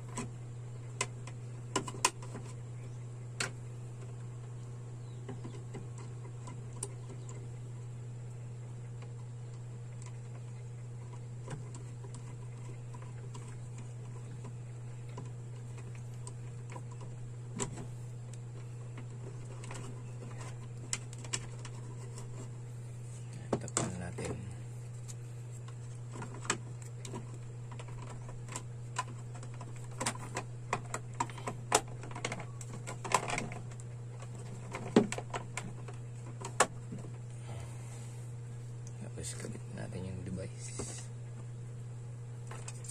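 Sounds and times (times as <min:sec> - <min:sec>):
low hum: 0:00.0 - 0:42.9.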